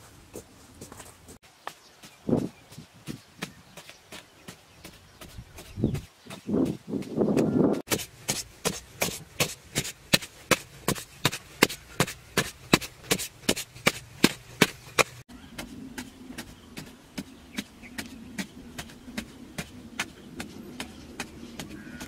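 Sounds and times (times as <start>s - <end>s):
hoe chopping dry soil: 1.7s - 22.0s.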